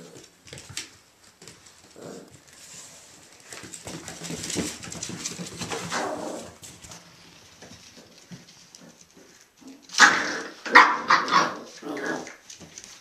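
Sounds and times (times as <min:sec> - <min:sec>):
puppies scuffling and scrabbling: 0:00.0 - 0:13.0.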